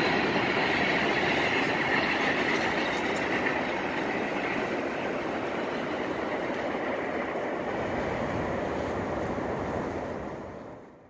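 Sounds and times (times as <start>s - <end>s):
freight train cars rolling: 0.0s - 10.9s.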